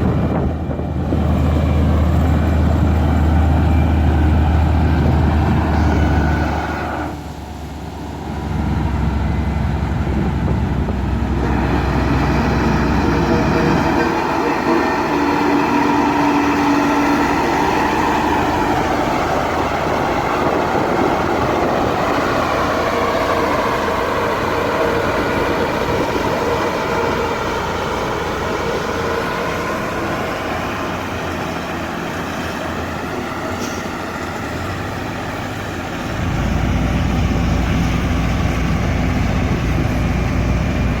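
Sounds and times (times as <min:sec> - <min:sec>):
heavy machine engine running: 0:00.0 - 0:41.0.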